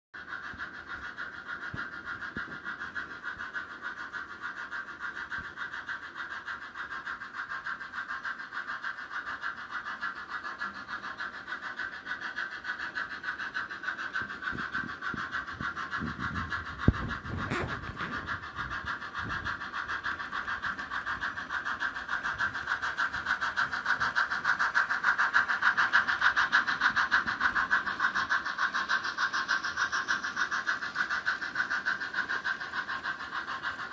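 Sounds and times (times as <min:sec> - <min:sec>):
model train motor whirring: 0:00.2 - 0:33.9.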